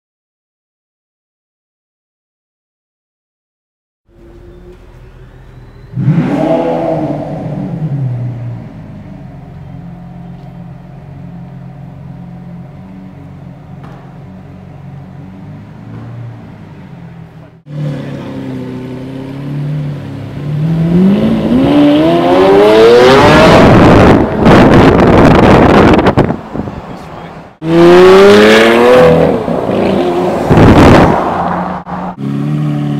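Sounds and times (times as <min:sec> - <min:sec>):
sports car engine revving: 0:04.1 - 0:26.7, 0:27.6 - 0:32.9.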